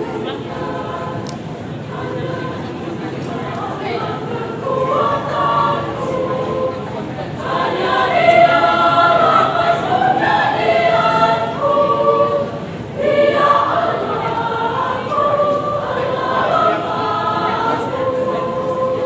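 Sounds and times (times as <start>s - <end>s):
women's choir singing: 0.0s - 19.0s.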